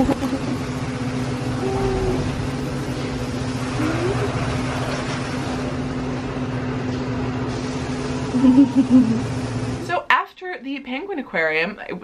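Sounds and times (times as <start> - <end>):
machinery hum with hiss: 0.0 - 10.6.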